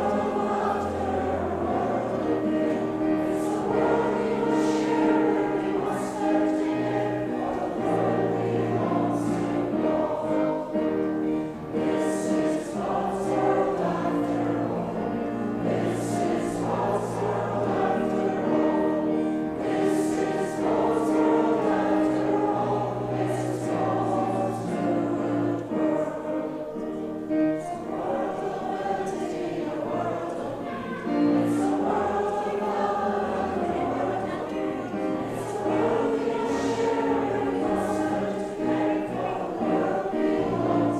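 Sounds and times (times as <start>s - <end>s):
congregation singing a hymn: 0.0s - 40.9s
piano accompaniment: 0.0s - 40.9s.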